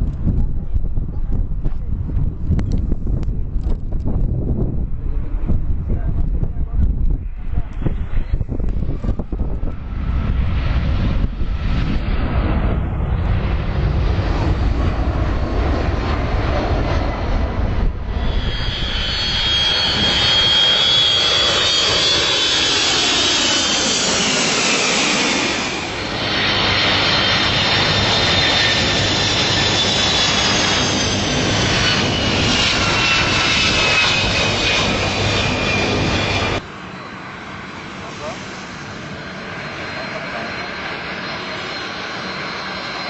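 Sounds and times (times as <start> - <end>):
deep rumble: 0.0 - 36.7
jet engine roar: 0.0 - 43.0
jet engines whining: 0.1 - 43.0.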